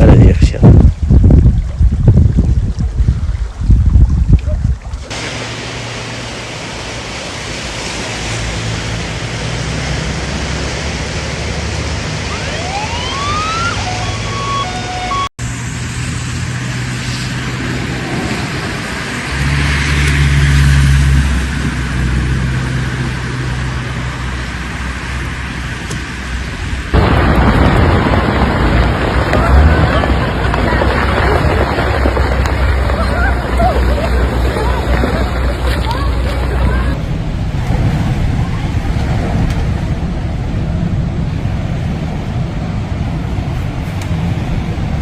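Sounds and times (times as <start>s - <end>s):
steady rushing noise: 5.1s - 45.0s
vehicle engines humming: 5.1s - 45.0s.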